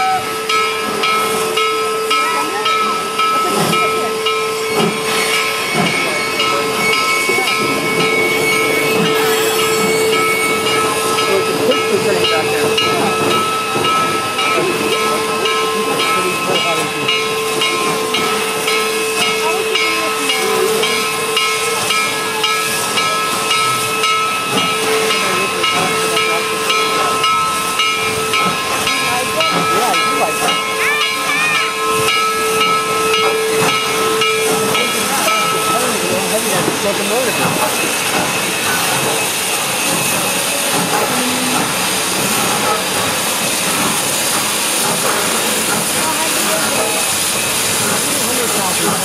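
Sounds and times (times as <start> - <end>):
steam locomotive blowing off steam: 0.0 - 49.0.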